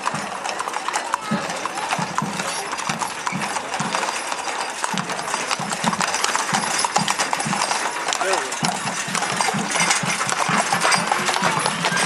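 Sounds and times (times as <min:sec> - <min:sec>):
hooves clip-clopping on asphalt: 0:00.0 - 0:12.0.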